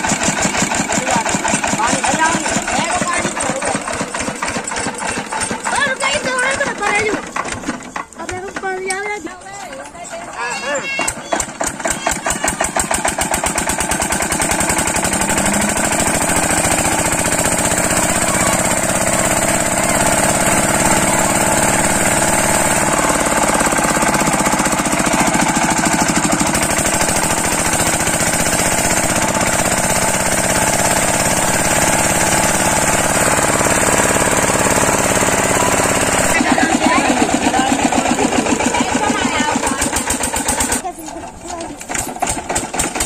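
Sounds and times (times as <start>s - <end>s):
diesel engine knocking: 0.0s - 9.2s, 10.9s - 43.0s.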